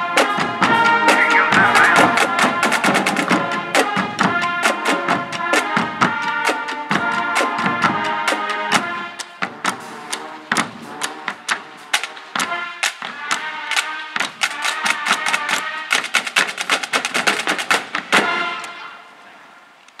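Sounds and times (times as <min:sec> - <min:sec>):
marching drumline playing: 0:00.0 - 0:18.8.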